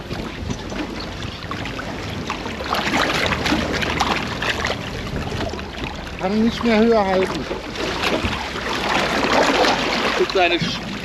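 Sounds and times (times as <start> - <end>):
fish splashing water: 1.5 - 10.4.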